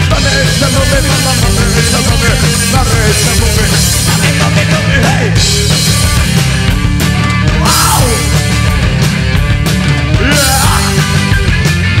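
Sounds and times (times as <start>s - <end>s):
drum kit with cymbals: 0.0s - 12.0s
electric bass: 0.0s - 12.0s
electric guitar: 0.0s - 12.0s.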